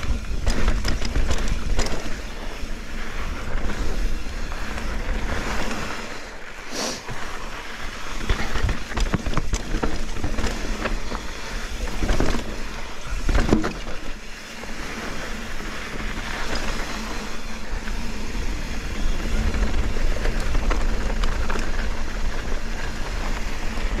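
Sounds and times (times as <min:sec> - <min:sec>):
bike rattling over bumps: 0:00.0 - 0:24.0
bike tyres rolling over gravel: 0:00.0 - 0:24.0.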